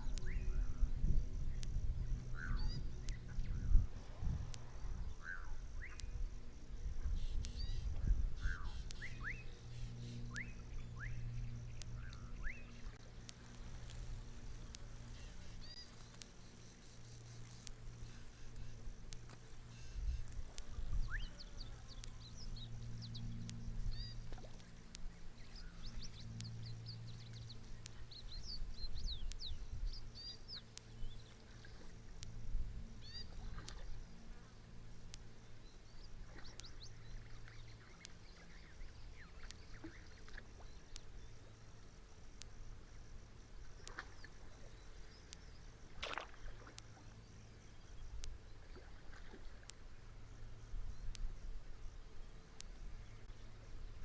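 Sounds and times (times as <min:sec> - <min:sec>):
small birds twittering: 0:00.0 - 0:51.3
faint ticks: 0:00.0 - 0:54.0
steady low hum: 0:00.0 - 0:54.0.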